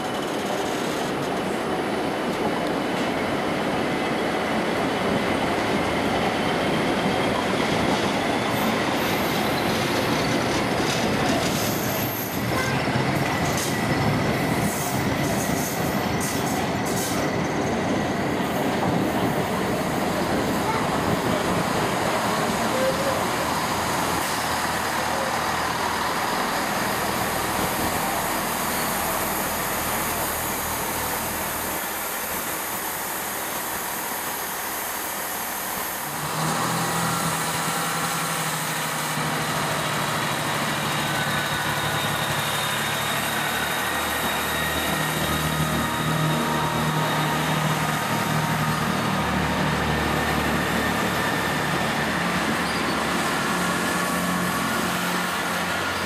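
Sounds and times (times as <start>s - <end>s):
diesel train engine humming: 0.0s - 56.0s
train and station noise: 0.0s - 56.0s.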